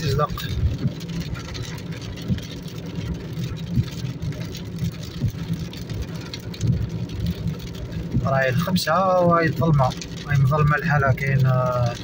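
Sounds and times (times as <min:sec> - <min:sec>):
car road noise on wet asphalt: 0:00.0 - 0:12.0
windscreen wipers thumping: 0:00.0 - 0:12.0.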